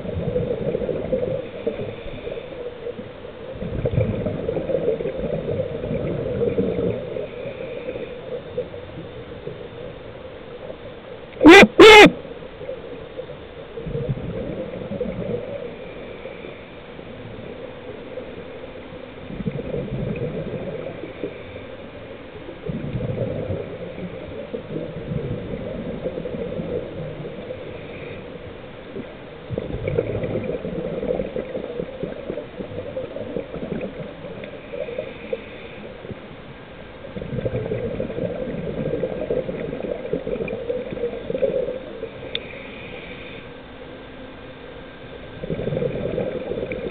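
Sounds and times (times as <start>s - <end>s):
steady hiss: 0.0s - 11.3s, 12.3s - 29.8s, 30.4s - 46.9s
underwater bubbles gurgling: 0.0s - 46.9s.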